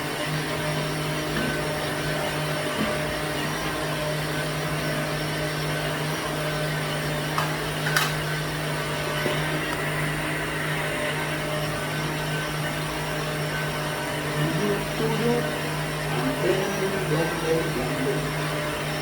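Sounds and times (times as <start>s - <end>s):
blender motor humming: 0.0s - 19.0s.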